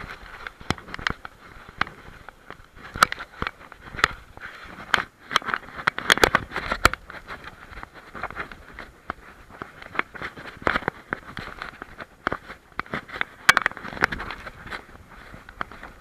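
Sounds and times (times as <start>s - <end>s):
harness clicks and knocks: 0.0s - 16.0s.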